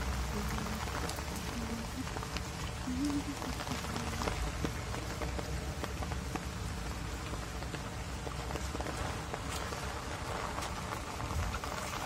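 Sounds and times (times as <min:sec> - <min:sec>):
sharp raindrop hits: 0:00.0 - 0:12.0
steady rain falling: 0:00.0 - 0:12.0.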